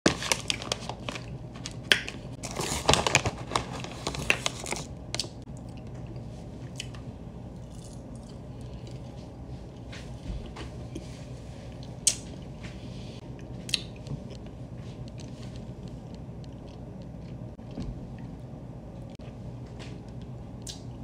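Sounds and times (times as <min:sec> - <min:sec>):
low steady hum: 0:00.1 - 0:21.0.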